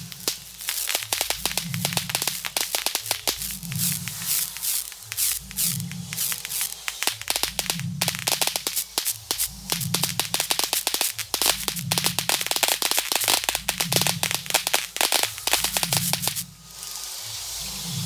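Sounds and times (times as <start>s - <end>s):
firework cracks and bangs: 0.0s - 16.5s.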